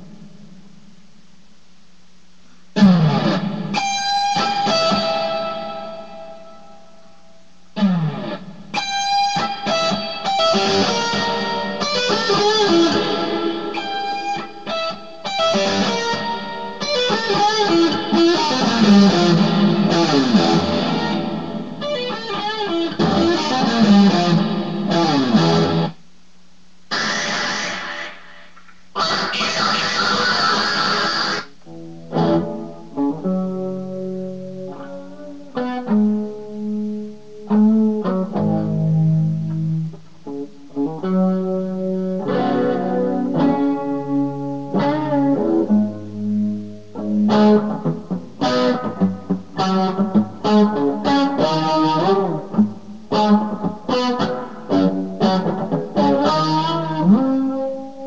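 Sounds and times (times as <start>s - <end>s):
electric guitar playing: 2.8s - 26.0s, 26.9s - 58.0s.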